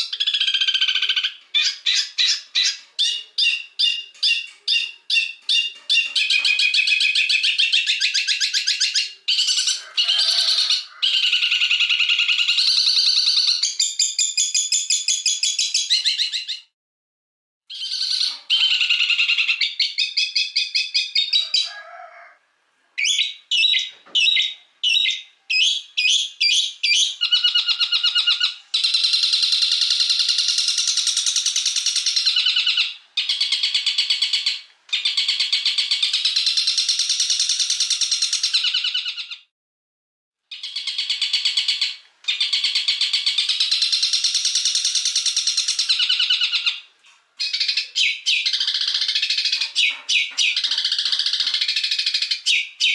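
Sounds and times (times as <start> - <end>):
songbird trilling: 0.0 - 16.6, 23.0 - 39.4, 40.5 - 52.9.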